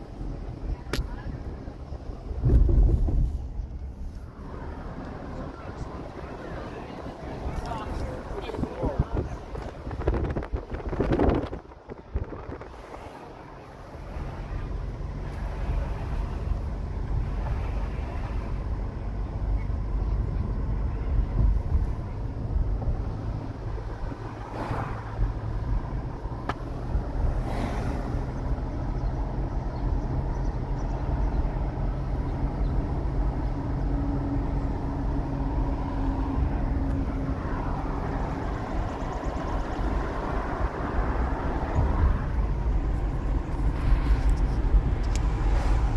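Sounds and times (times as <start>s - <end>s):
car engine and tyre noise: 0.0s - 45.9s.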